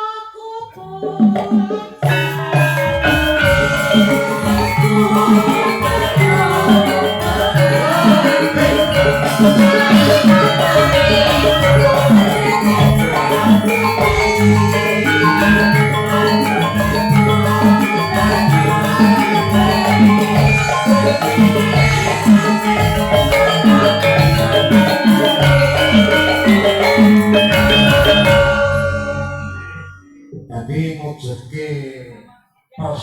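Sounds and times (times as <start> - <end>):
metallophones and gongs ringing: 1.5 - 30.2.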